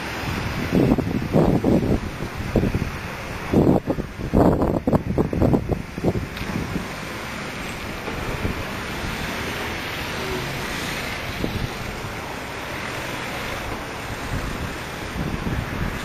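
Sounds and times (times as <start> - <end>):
street traffic: 0.0 - 16.0
wind buffeting microphone: 0.0 - 16.0.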